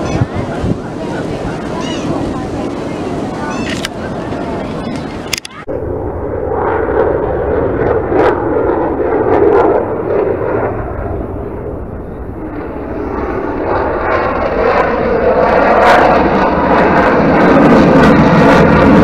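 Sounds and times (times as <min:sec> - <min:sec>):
airplane engine roar: 0:00.0 - 0:19.0.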